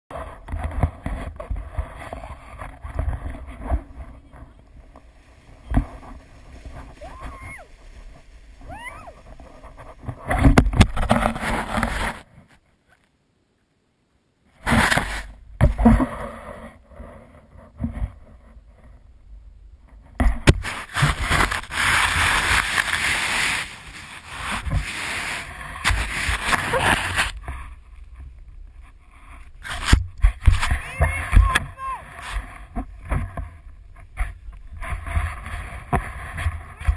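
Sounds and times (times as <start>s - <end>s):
snow scraping against camera: 0.1s - 13.0s, 14.5s - 19.2s, 20.0s - 36.9s.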